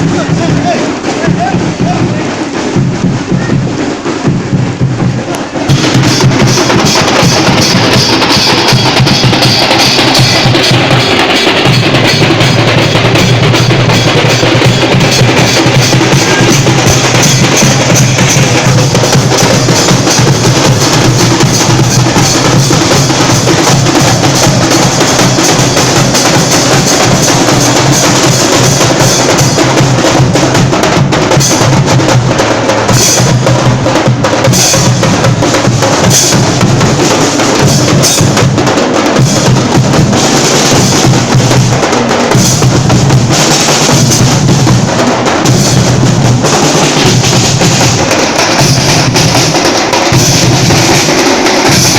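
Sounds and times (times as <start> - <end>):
fast drumming with heavy bass drum: 0.0 - 51.9.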